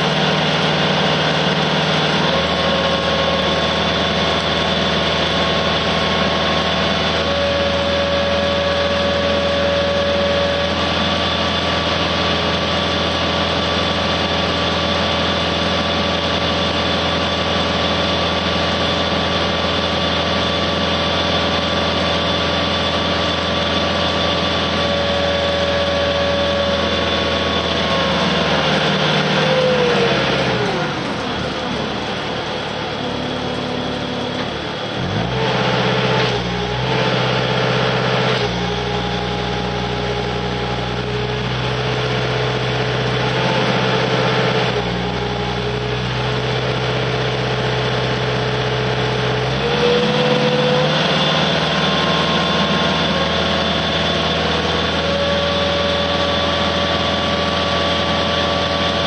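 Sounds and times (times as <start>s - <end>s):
engine running steadily: 0.0s - 59.0s
mulcher drum whining: 0.0s - 59.0s.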